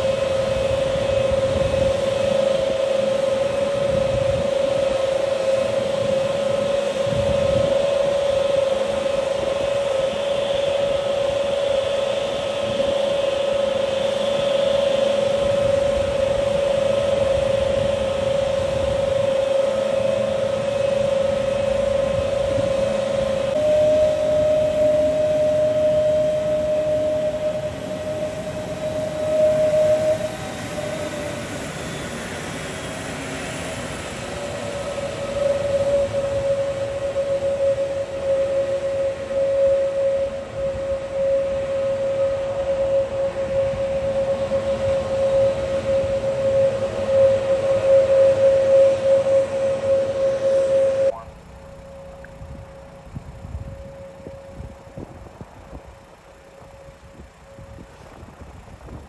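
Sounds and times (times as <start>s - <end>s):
jet engine idling whine: 0.0s - 59.0s
rush of engine noise: 0.0s - 59.0s.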